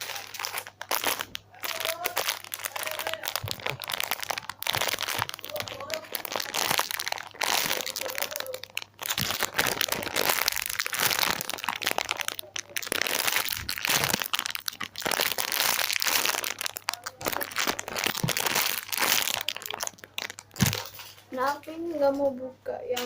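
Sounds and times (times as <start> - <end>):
plastic packaging crinkling: 0.0 - 22.3.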